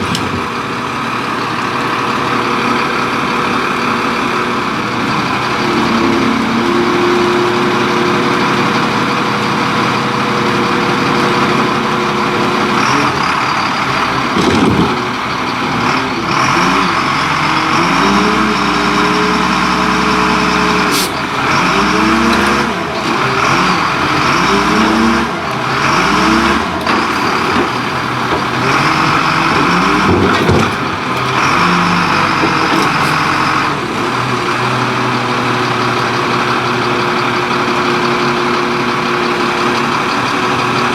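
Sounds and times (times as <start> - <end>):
garbage truck engine revving: 0.0 - 40.9.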